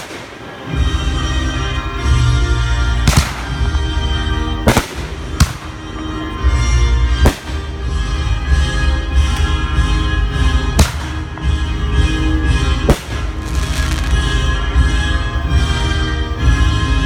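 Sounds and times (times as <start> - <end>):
fireworks bangs: 0.0 - 1.4, 2.9 - 15.6
music playing: 0.0 - 17.0.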